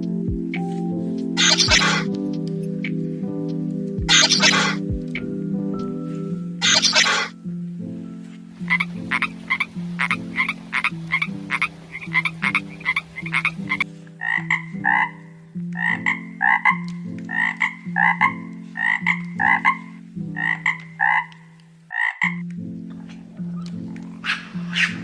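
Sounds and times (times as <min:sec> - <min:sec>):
low stepping backing melody: 0:00.0 - 0:25.0
frog croaking: 0:01.3 - 0:03.0, 0:04.1 - 0:05.4, 0:06.6 - 0:07.3, 0:08.6 - 0:25.0.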